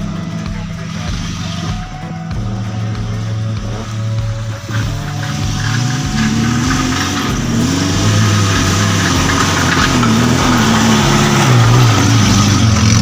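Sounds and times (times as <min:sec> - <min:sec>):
jeep engine at low revs: 0:00.0 - 0:13.0.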